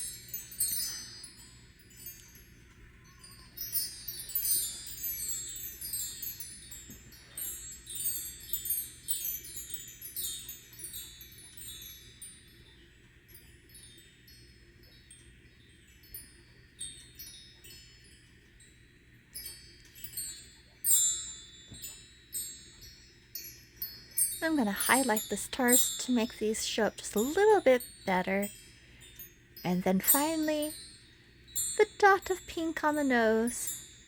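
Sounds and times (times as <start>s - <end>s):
wind chimes tinkling: 0.0s - 34.0s.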